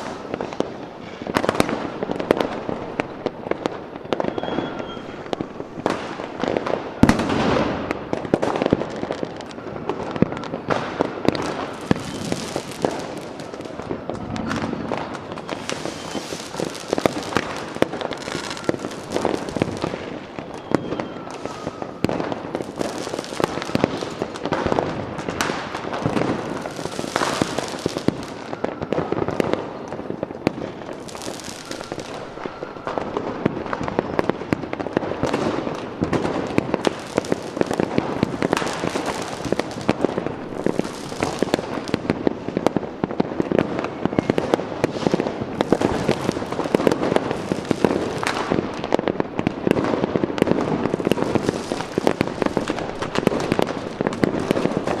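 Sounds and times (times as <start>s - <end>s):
faint fireworks whistles: 0.0s - 55.0s
fireworks crackles and bangs: 0.0s - 55.0s.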